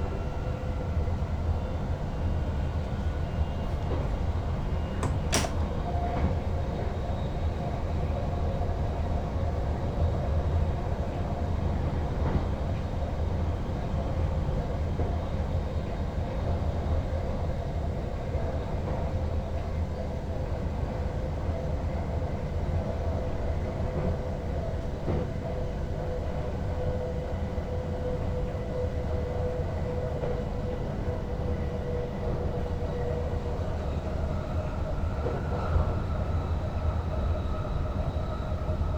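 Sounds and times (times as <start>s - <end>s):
train rumbling along track: 0.0s - 38.9s.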